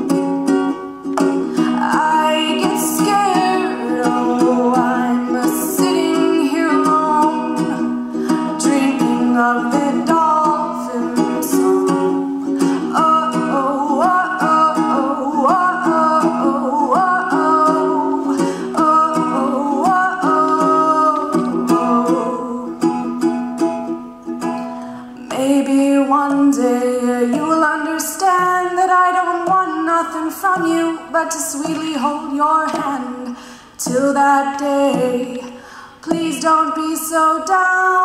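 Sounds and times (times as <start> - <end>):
woman singing: 0.0 - 23.3, 24.9 - 38.0
ukulele strumming: 0.0 - 38.0.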